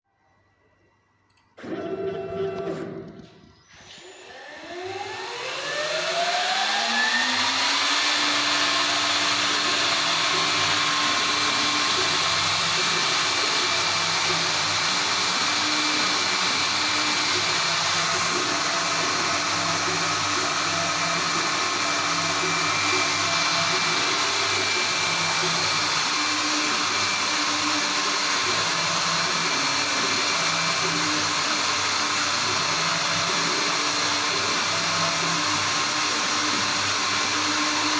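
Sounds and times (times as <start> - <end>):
spindle motor whine: 0.1 - 37.9.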